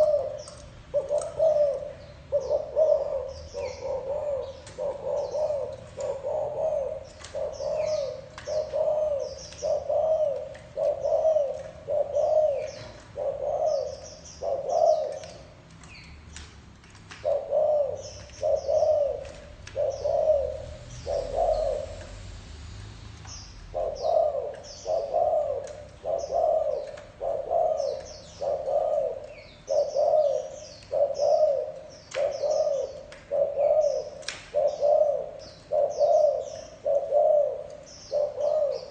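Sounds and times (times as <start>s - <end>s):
dove cooing: 0.0s - 15.7s, 17.1s - 22.2s, 23.4s - 38.9s
small birds chirping: 0.0s - 38.9s.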